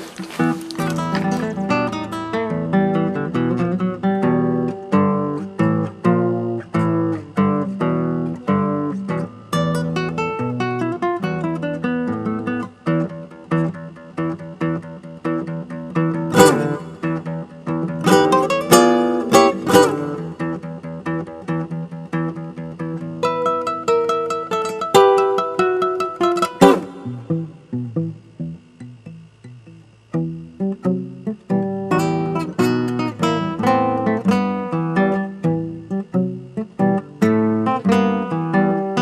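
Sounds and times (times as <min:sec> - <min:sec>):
acoustic guitar music: 0:00.0 - 0:39.0.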